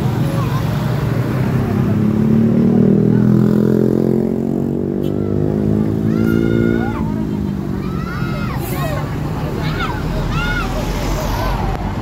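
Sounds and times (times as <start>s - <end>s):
bus engine driving past: 0.0s - 12.0s
voices: 0.0s - 12.0s.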